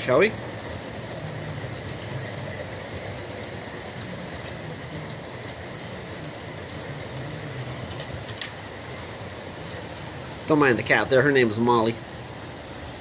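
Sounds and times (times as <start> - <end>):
model train running on rails: 0.0 - 13.0.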